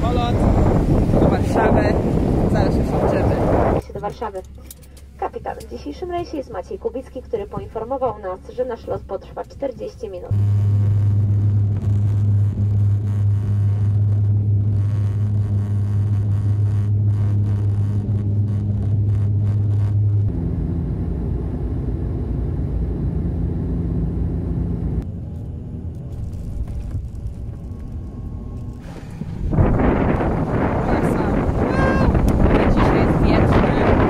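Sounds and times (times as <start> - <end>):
airplane cabin propeller drone: 0.0 - 34.0.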